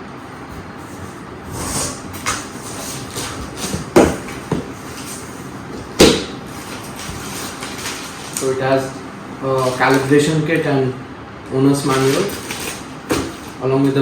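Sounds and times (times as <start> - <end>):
packaging rustling: 0.2 - 10.7, 11.7 - 14.0
sharp knocks and clatters: 0.3 - 10.1, 11.9 - 14.0.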